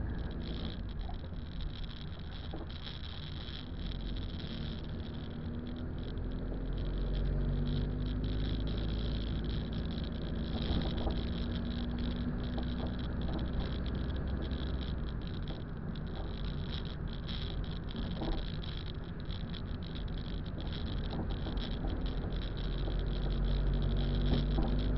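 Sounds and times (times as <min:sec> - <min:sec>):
car engine and tyre rumble: 0:00.0 - 0:24.9.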